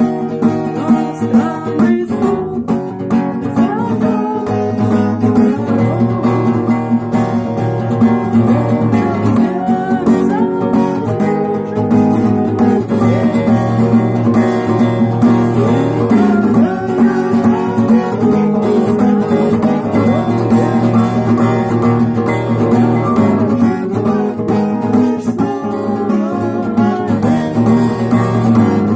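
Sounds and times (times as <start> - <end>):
acoustic guitar strumming: 0.0 - 28.9.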